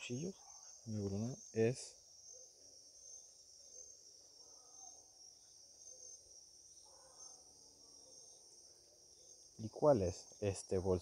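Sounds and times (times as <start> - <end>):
faint high-pitched hiss: 0.0 - 11.0.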